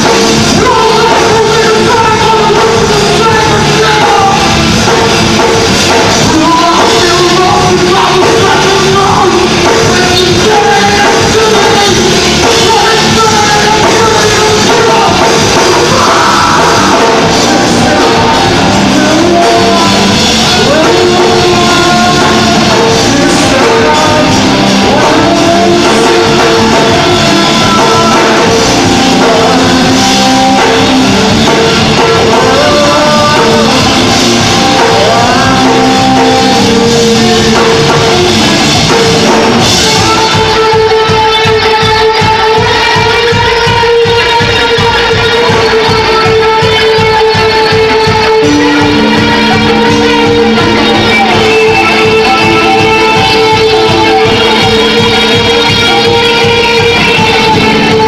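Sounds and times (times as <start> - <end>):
person singing and shouting: 0.0 - 58.0
rock band playing live: 0.0 - 58.0.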